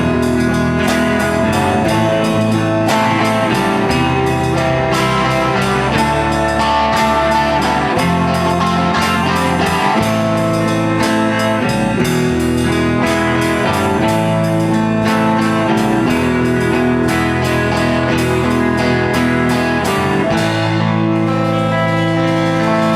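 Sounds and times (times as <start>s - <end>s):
blues-rock guitar band music: 0.0s - 22.9s.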